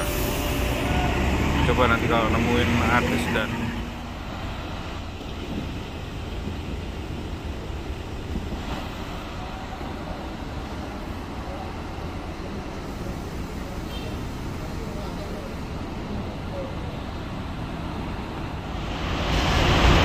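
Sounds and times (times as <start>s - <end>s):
bus terminal background rumble: 0.0s - 20.0s.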